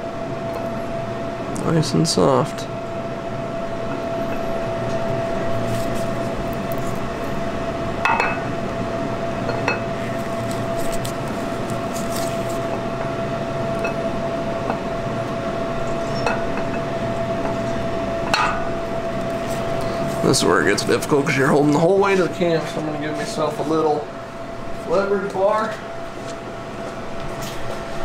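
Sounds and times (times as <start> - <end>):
steady tonal hum: 0.0 - 28.0.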